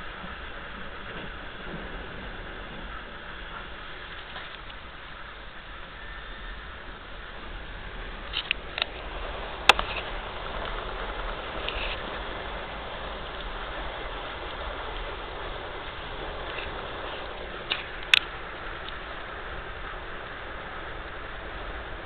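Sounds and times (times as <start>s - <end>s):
train rushing and rumbling: 0.0s - 22.0s.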